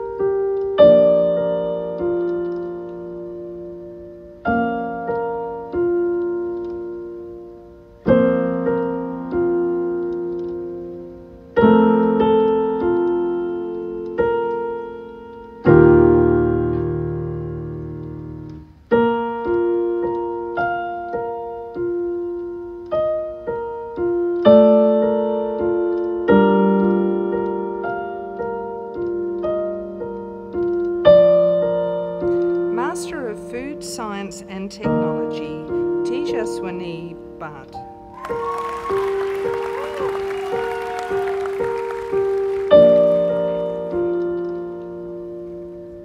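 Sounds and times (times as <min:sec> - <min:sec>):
slow solo piano: 0:00.0 - 0:33.9, 0:34.8 - 0:46.0.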